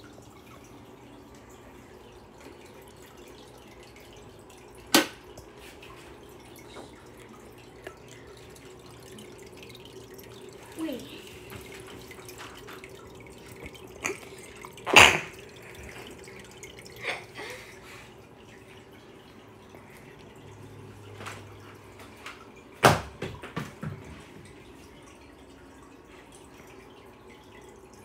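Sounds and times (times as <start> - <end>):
faint steady hum: 0.0 - 28.0
filter trickling water: 0.0 - 28.0.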